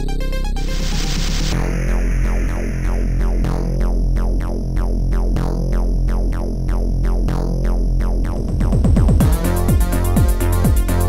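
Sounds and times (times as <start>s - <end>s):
electronic music with drum machine: 0.0s - 11.0s.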